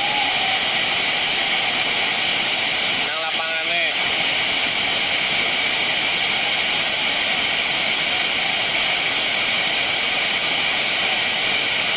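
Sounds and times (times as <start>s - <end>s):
heavy rain pouring: 0.0s - 11.9s.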